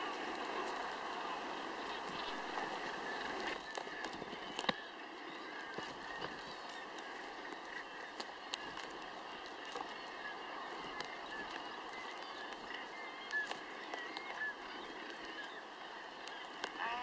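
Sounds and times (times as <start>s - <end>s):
distant seabirds calling: 0.0s - 17.0s.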